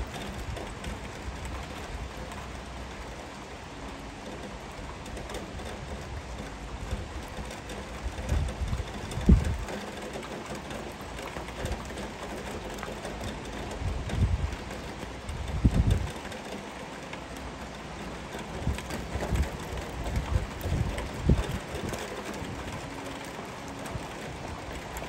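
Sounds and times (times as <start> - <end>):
heavy rain on leaves: 0.0 - 25.0.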